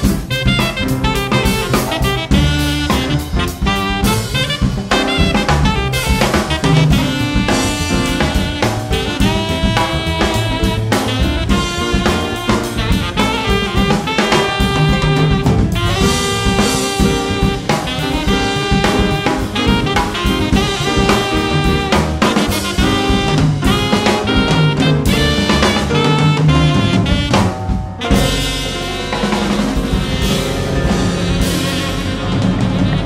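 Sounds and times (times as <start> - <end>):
alto saxophone lead: 0.0 - 33.0
bass: 0.0 - 33.0
drum kit with rimshots: 0.0 - 33.0
piano: 0.0 - 33.0.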